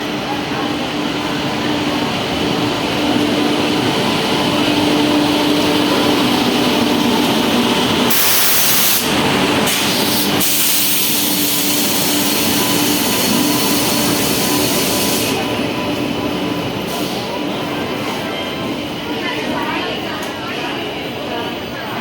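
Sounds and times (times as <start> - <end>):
train rushing in motion: 0.0 - 22.0.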